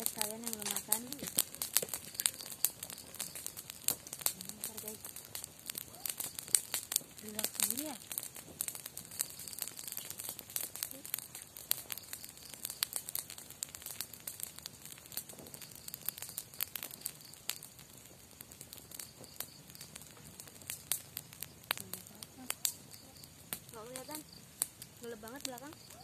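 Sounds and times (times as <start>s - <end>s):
campfire crackling and popping: 0.0s - 26.0s
faint hiss: 0.0s - 26.0s.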